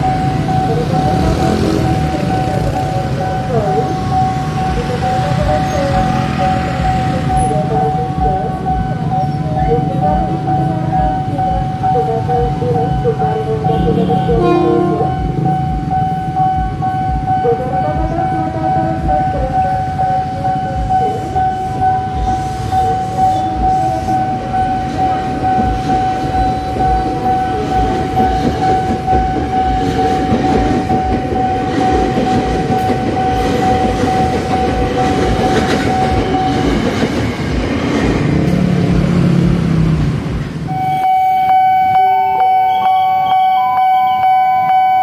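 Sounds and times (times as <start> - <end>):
crossing alarm high tone: 0.0 - 38.0, 40.7 - 45.0.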